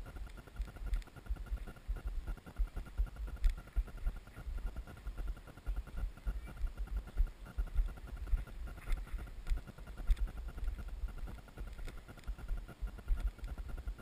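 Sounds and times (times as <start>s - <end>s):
high hum of drone motors: 0.0s - 14.0s.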